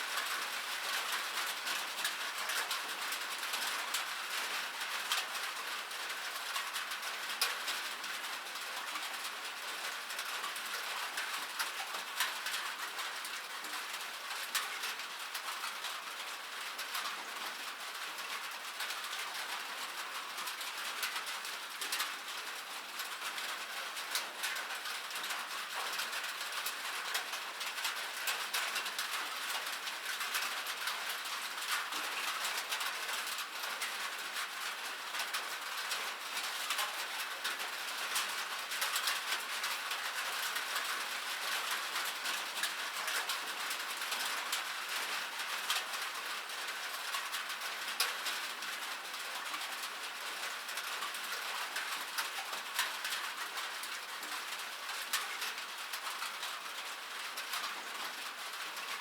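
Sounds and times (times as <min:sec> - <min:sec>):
rain pattering on metal: 0:00.0 - 0:59.0.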